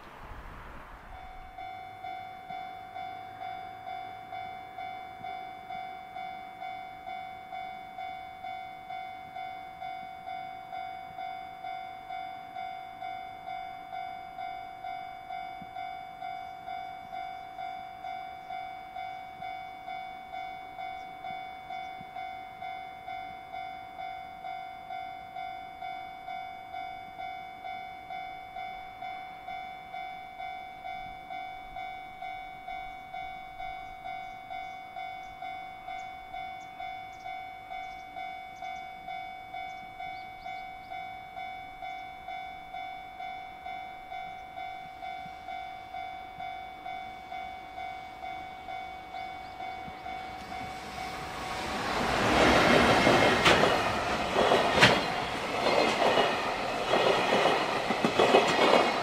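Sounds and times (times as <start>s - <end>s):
faint rail ticks: 0.0s - 0.3s, 1.0s - 59.0s
level crossing bell ringing: 1.2s - 59.0s.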